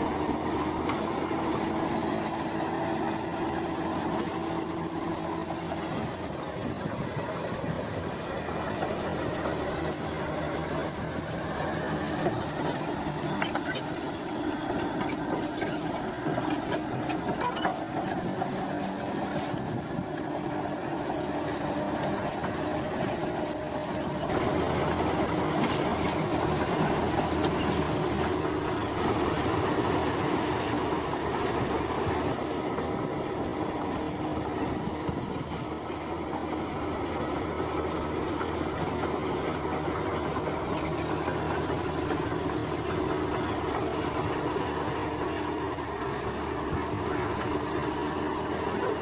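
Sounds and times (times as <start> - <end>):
bulldozer diesel engine under load: 0.0 - 49.0.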